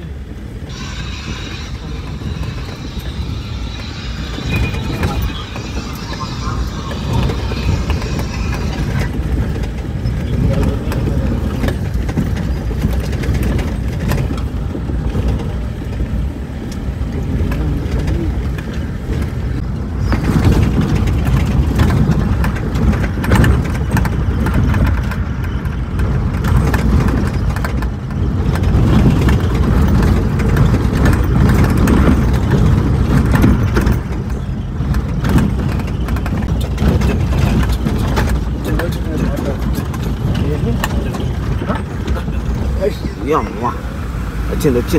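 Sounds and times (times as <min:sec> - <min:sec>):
road rumble: 0:00.0 - 0:44.9
vehicle engine: 0:00.0 - 0:44.9.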